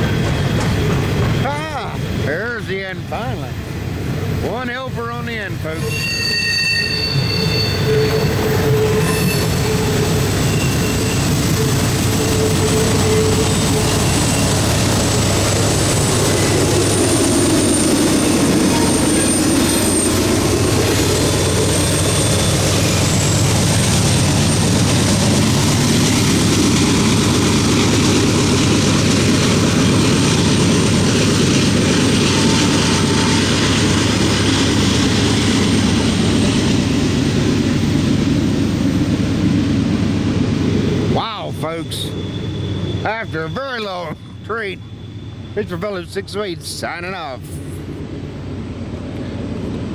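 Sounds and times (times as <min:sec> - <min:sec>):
diesel locomotive engine drone: 0:00.0 - 0:49.9.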